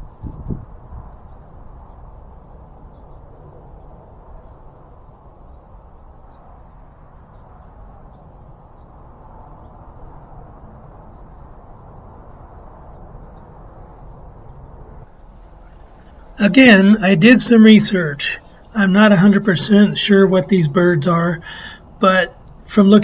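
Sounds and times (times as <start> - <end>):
wind rumble: 0.0 - 23.0
high-pitched whine: 2.9 - 23.0.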